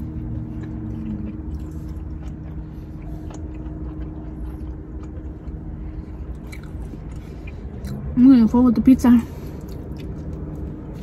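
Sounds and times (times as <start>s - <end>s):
person chewing food: 0.0s - 8.2s, 9.3s - 11.0s.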